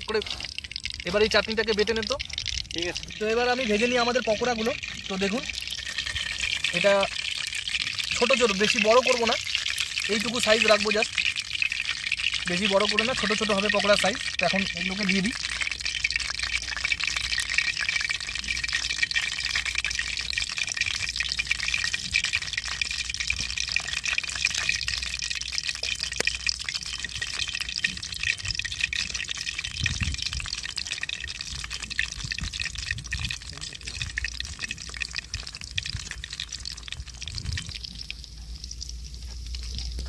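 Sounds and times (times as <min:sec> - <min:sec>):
batter sizzling in hot oil: 0:00.0 - 0:40.0.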